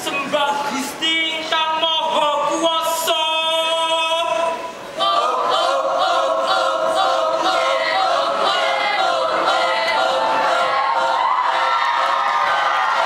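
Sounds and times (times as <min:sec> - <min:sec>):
group singing a cappella: 0:00.8 - 0:13.0.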